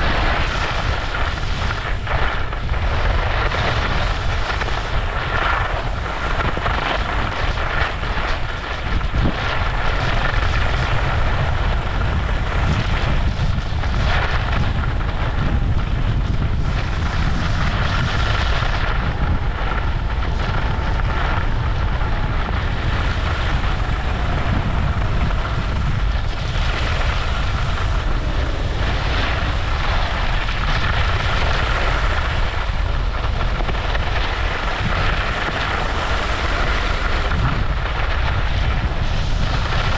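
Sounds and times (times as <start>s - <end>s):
skis scraping over snow: 0.0s - 39.9s
wind on microphone: 0.0s - 39.9s.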